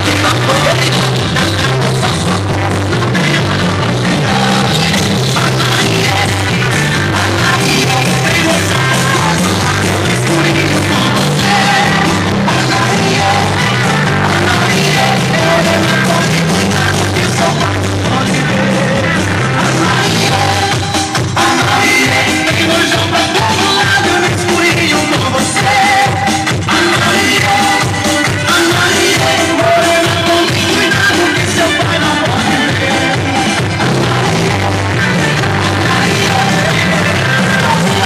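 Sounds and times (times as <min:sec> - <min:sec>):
heavy bass line: 0:00.0 - 0:38.0
loud music with singing: 0:00.0 - 0:38.0.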